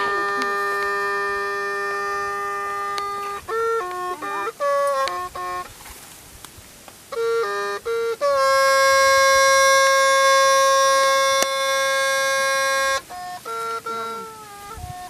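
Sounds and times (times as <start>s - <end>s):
bamboo free reed pipe playing: 0.0s - 6.4s, 7.0s - 15.0s.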